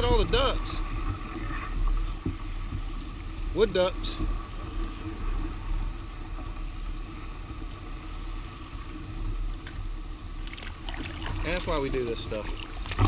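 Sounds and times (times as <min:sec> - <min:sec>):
kayak hull through lily pads: 0:00.0 - 0:13.0.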